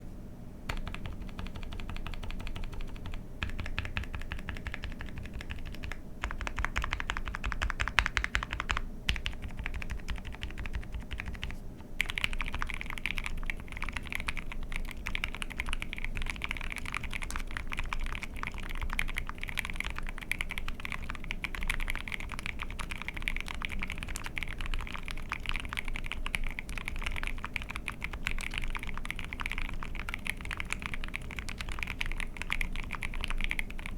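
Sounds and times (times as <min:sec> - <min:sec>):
fast typing on mechanical keyboard: 0:00.7 - 0:33.9.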